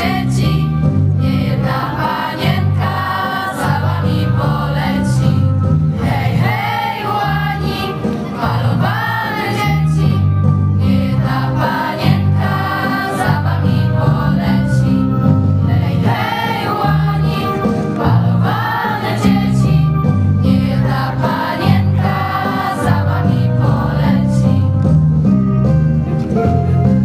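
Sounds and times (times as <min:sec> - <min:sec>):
girls singing in unison: 0:00.0 - 0:05.4, 0:06.0 - 0:15.0, 0:15.7 - 0:24.7
instrumental backing chords: 0:00.0 - 0:27.0.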